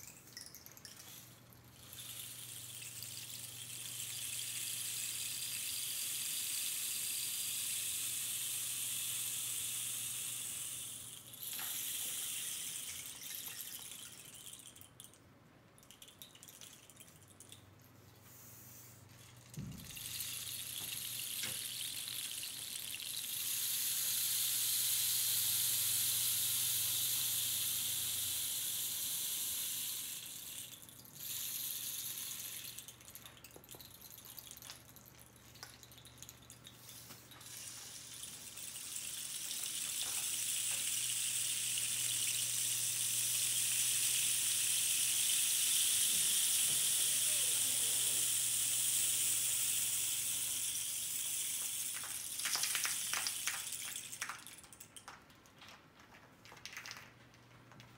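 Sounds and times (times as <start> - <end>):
rainstick pouring: 0.0 - 17.8, 19.0 - 57.3.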